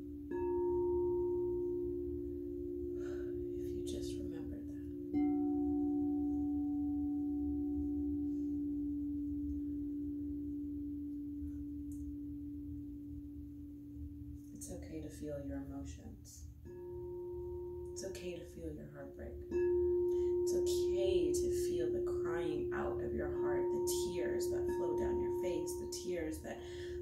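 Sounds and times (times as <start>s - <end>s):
singing bowl ringing: 0.0s - 14.5s, 16.6s - 18.4s, 19.2s - 27.0s.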